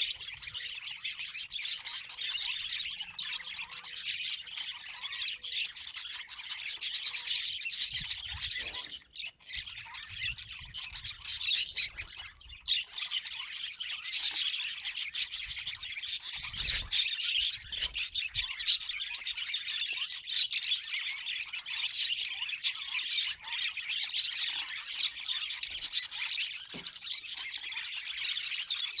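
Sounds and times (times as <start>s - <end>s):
budgerigars chattering: 0.0s - 29.0s.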